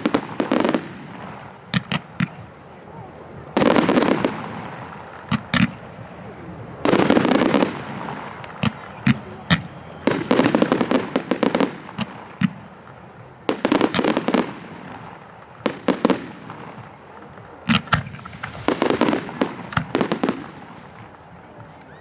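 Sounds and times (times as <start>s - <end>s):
firework bangs: 0.0s - 21.9s
firework crackling: 0.0s - 22.0s.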